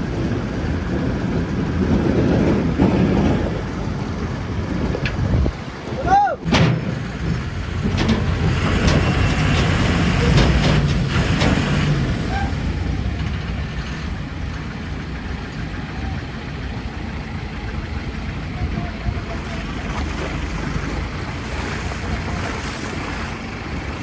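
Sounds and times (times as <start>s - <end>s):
heavy diesel engines under load: 0.0s - 24.0s.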